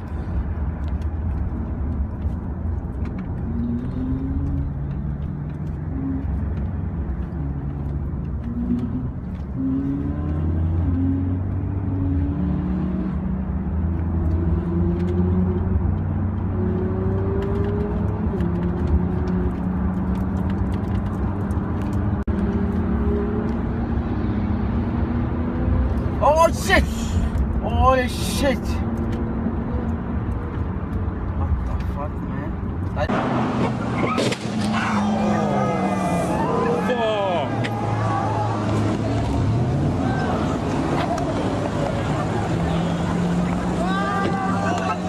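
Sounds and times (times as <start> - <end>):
car engine accelerating: 0.0 - 26.2, 28.6 - 45.0
low road rumble: 0.0 - 45.0.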